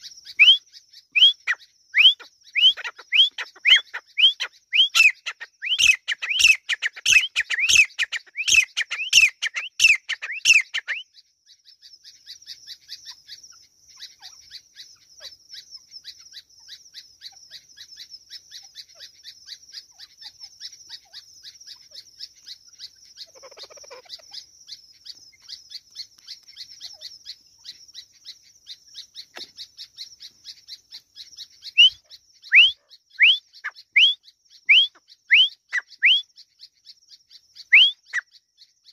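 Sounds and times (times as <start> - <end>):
faint rapid high chirping: 0.0 - 11.2, 12.5 - 38.9
francolin calling: 0.0 - 38.9.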